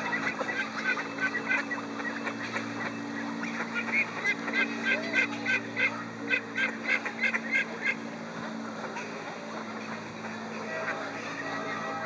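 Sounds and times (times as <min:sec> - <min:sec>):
steady low hum: 0:00.0 - 0:12.0
waterfowl calling: 0:00.0 - 0:12.0.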